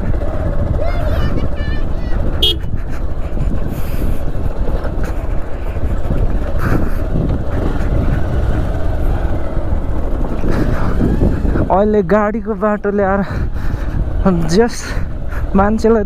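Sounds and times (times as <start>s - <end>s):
motorcycle engine rumble: 0.0s - 16.0s
tires on gravel road: 0.0s - 16.0s.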